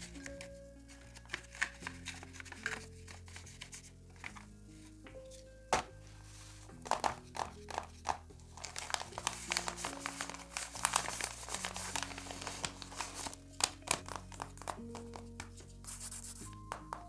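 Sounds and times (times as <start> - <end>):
paper crinkling and rustling: 0.0 - 17.0
soft background music: 0.0 - 17.0.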